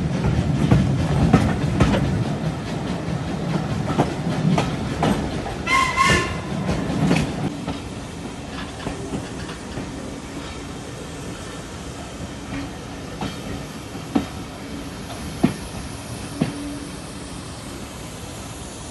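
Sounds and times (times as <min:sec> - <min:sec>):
train wheels clattering over rail joints: 0:00.0 - 0:10.8, 0:12.2 - 0:16.8.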